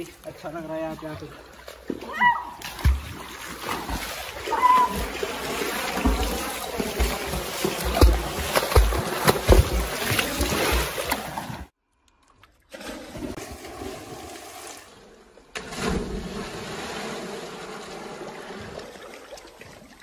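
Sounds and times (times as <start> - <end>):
churning water: 0.0 - 11.8, 12.6 - 20.0
water splashing and sloshing: 0.0 - 20.0.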